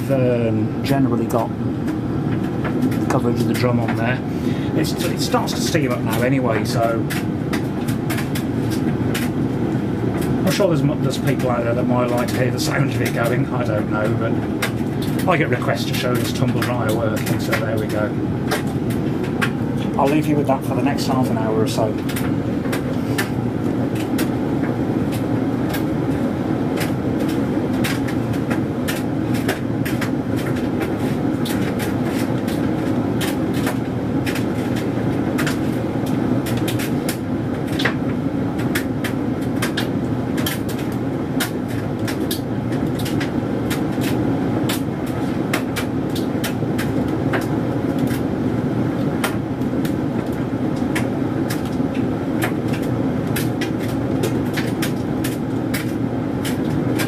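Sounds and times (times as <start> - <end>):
tumble dryer motor hum: 0.0 - 57.0
clicks and taps from dryer drum: 0.9 - 4.2, 4.8 - 57.0.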